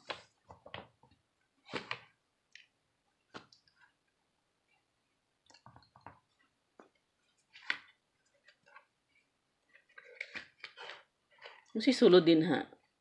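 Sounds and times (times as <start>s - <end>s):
cardboard and books handled: 0.0s - 11.8s.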